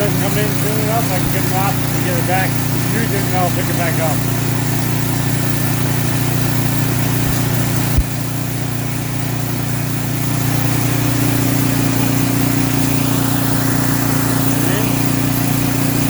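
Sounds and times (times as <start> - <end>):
snowblower engine running: 0.0 - 16.0.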